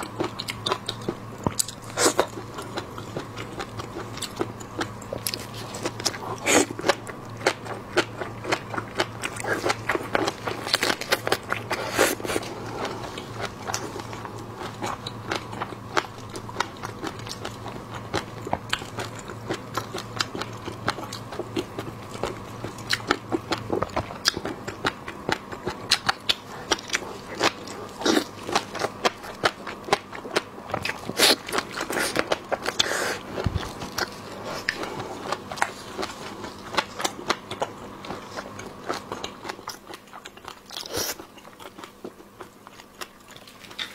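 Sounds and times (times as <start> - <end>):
chewing: 0.0 - 43.9.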